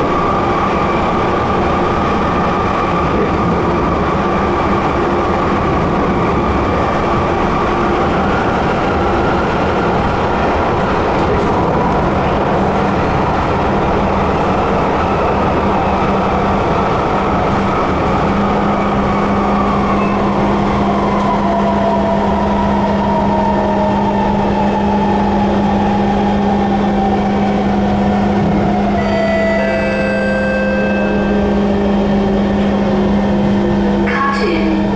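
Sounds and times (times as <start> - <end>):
train wheels rumbling on track: 0.0 - 34.9.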